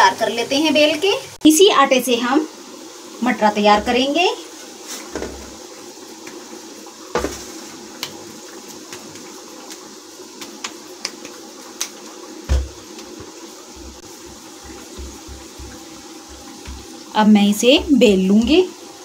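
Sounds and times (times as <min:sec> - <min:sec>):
steady background hum and hiss: 0:00.0 - 0:19.0.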